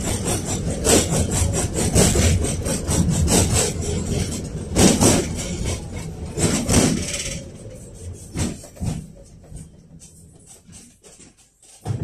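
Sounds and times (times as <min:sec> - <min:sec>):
tram body rattling: 0:00.0 - 0:12.0
tram running gear rumble: 0:00.0 - 0:12.0.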